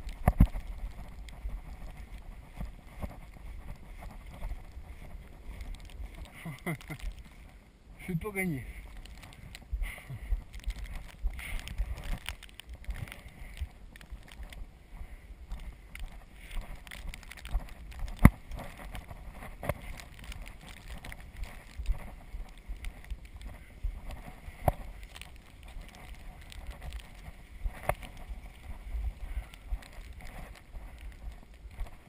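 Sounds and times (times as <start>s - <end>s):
wind on microphone: 0.0s - 6.4s, 8.8s - 32.0s
trike rolling rumble on snow: 0.0s - 32.0s.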